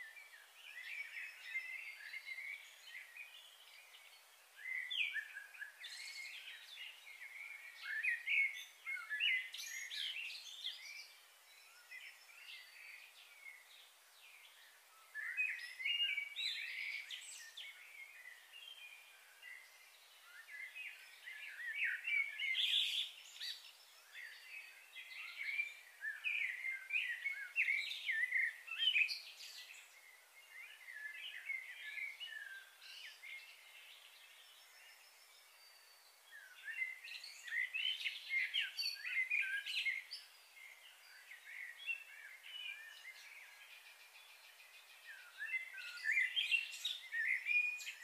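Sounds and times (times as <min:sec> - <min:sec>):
small birds chirping and twittering: 0:00.0 - 0:48.0.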